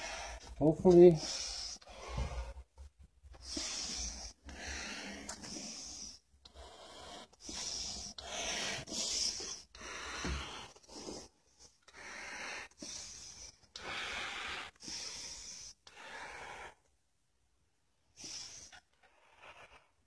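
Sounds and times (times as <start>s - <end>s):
person breathing heavily: 0.0s - 2.7s, 3.4s - 16.8s, 18.1s - 20.0s.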